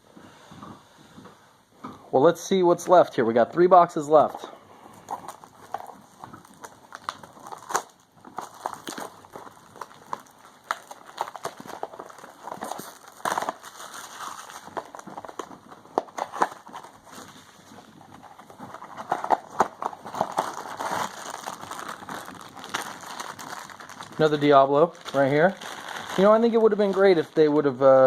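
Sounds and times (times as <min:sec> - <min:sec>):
toy packaging crackling and crinkling: 0:04.1 - 0:28.0.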